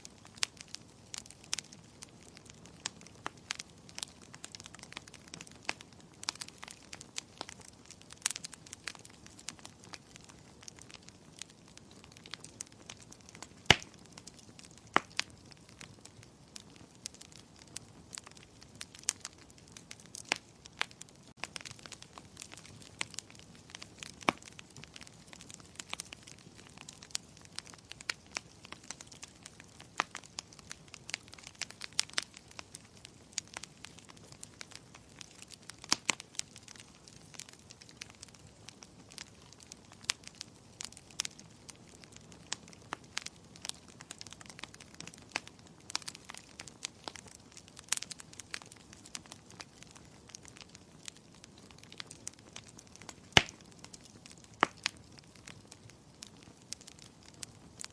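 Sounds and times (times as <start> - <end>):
fire crackling and popping: 0.0 - 57.9.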